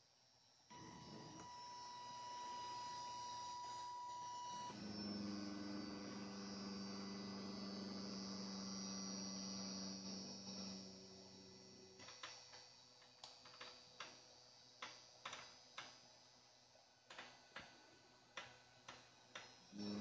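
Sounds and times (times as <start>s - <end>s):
motor hum with high whine: 0.0s - 20.0s.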